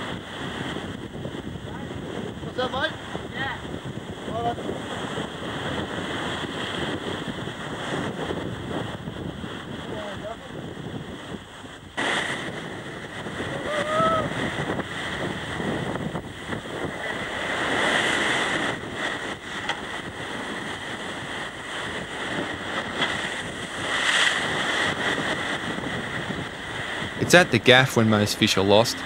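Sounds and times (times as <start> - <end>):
surf breaking on rocks: 0.0 - 29.0
wind buffeting microphone: 0.0 - 29.0.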